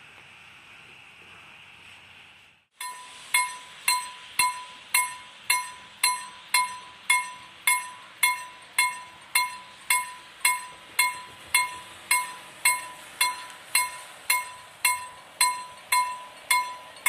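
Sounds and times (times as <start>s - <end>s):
level crossing bell ringing: 2.8s - 17.0s.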